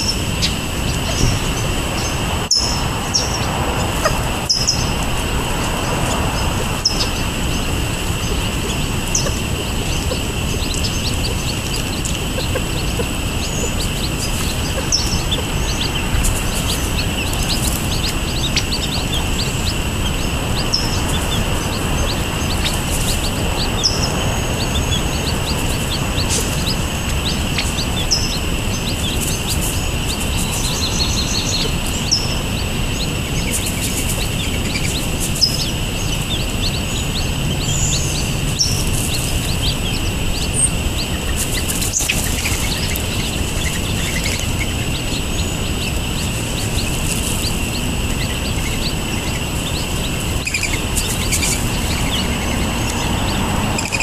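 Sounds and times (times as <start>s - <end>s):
bird chirps and peeps: 0.0s - 54.0s
low background rumble: 0.0s - 54.0s.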